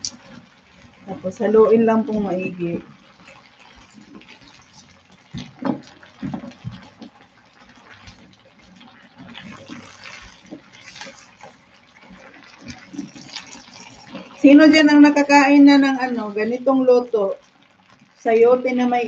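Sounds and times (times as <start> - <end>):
simmering hiss: 0.0 - 17.4
spatula stirring in wet pan: 0.0 - 19.0.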